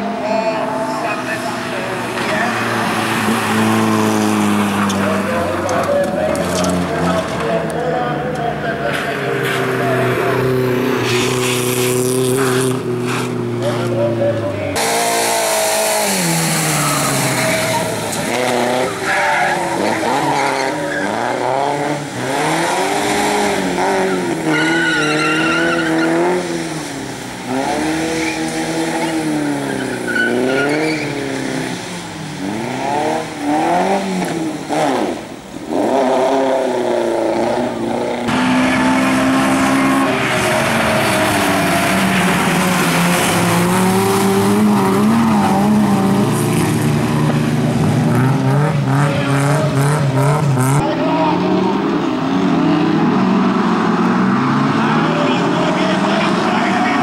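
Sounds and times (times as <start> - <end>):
racing car engines revving: 0.0 - 57.0
tyres skidding: 0.0 - 57.0.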